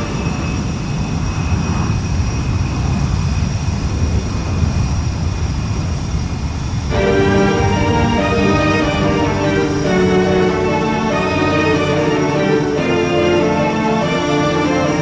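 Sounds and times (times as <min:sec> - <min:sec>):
airplane engines rumbling overhead: 0:00.0 - 0:15.0.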